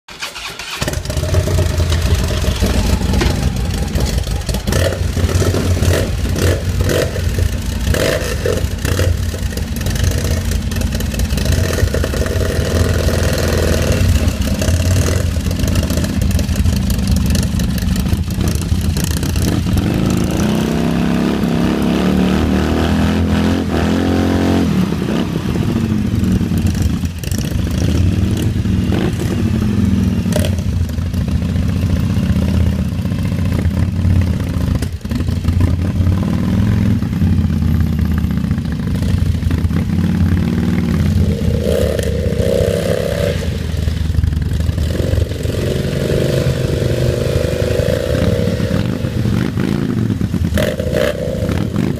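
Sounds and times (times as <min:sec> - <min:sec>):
motorcycle engine revving: 0:00.1 - 0:51.9.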